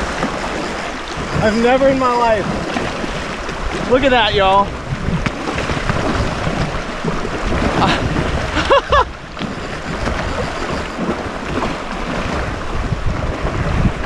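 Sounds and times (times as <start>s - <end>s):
water slapping and splashing: 0.0s - 14.0s
wind buffeting microphone: 0.0s - 14.0s.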